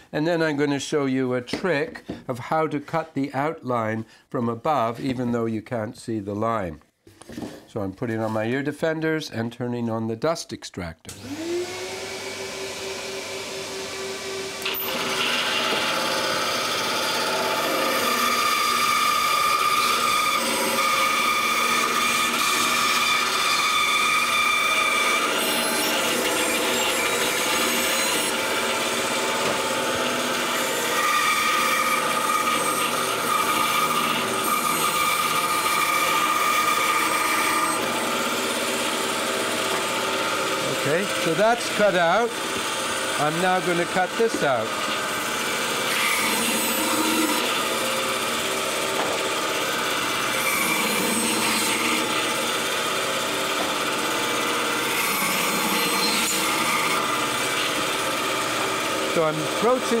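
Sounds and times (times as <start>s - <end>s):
bandsaw cutting wood: 11.1s - 60.0s
dust extractor running: 11.2s - 60.0s.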